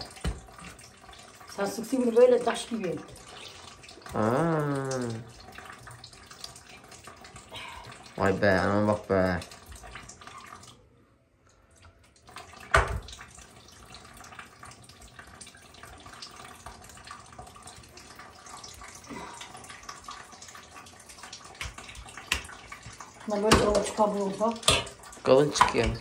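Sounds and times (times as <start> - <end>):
whey dripping and splashing: 0.0 - 26.0.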